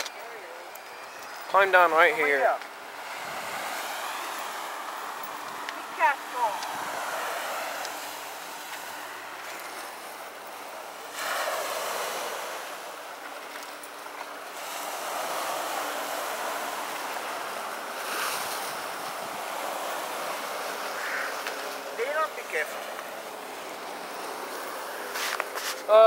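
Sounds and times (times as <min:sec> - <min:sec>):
waves washing onto pebble shore: 0:01.6 - 0:26.0.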